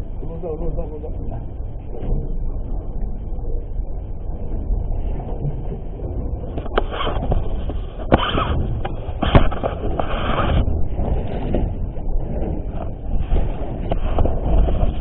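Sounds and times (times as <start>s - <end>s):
sea noise: 0.0s - 15.0s
wind rumbling on microphone: 0.0s - 15.0s.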